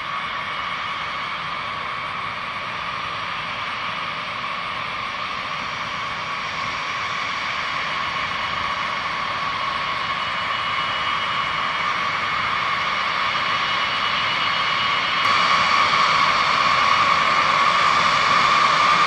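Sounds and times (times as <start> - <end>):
jet engines taxiing: 0.0 - 19.0.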